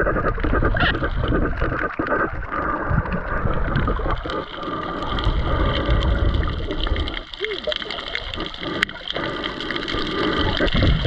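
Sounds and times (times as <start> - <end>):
underwater rushing wash: 0.0 - 11.0
small crackling clicks: 0.2 - 11.0.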